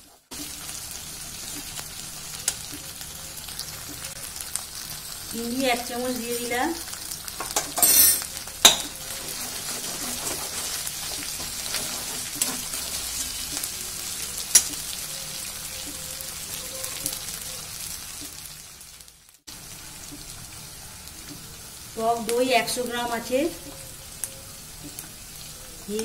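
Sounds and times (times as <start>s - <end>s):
spice paste sizzling in oil: 0.0s - 26.0s.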